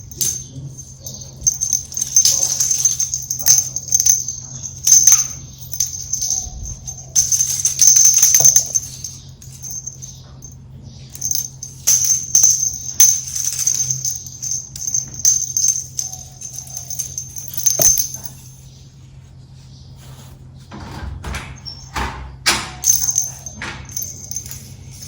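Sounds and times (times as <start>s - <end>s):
small bell jingling: 0.0s - 18.8s, 22.8s - 25.0s
low steady hum: 0.0s - 22.0s, 22.7s - 25.0s.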